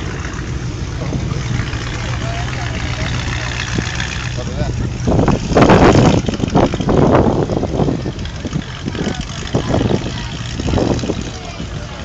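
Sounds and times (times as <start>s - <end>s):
car engines rumbling: 0.0s - 12.0s
tyres on road: 0.0s - 12.0s.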